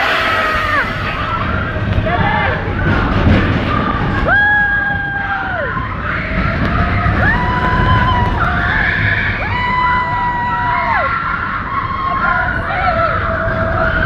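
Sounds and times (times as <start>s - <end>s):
low rumble of moving ride: 0.0s - 14.0s
roller coaster riders screaming: 0.0s - 14.0s.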